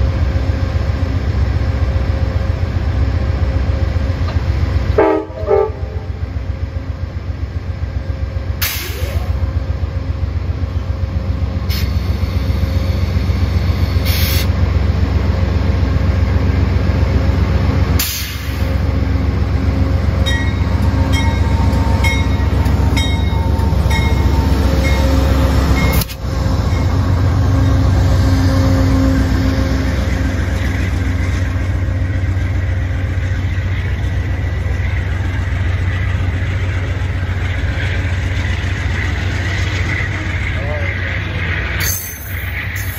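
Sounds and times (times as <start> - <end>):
diesel locomotive rumble: 0.0 - 42.9.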